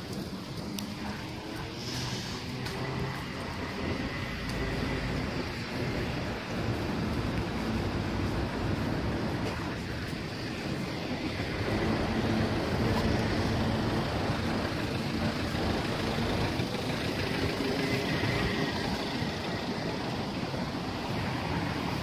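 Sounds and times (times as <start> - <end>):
traffic on wet road: 0.0 - 22.0.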